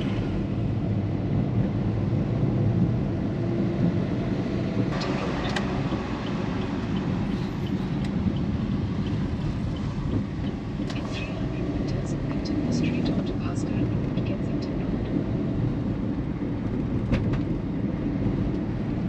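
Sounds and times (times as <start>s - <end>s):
car rumble inside cabin: 0.0s - 19.0s.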